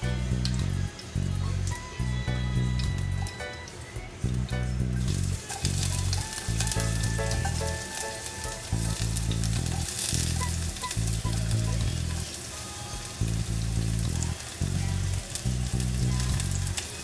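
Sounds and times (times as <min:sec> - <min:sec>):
background music with deep bass: 0:00.0 - 0:17.0
onion sizzling in hot oil: 0:00.0 - 0:17.0.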